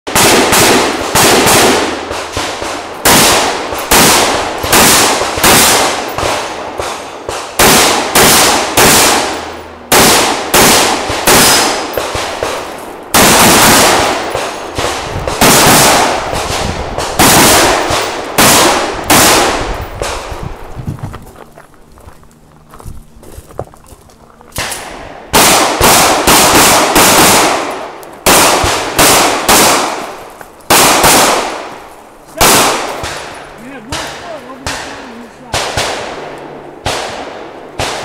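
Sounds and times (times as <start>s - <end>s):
pistol shots with ringing echo: 0.1s - 20.3s, 24.6s - 38.0s.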